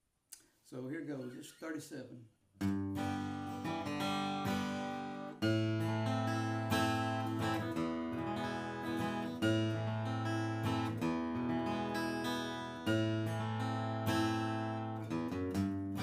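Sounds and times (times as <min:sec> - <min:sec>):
acoustic guitar strumming and picking: 0:02.6 - 0:16.0.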